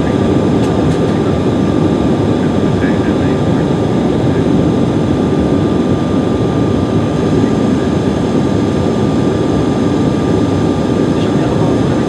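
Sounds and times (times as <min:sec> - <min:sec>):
airflow rush in cabin: 0:00.0 - 0:12.0
jet engine hum: 0:00.0 - 0:12.0.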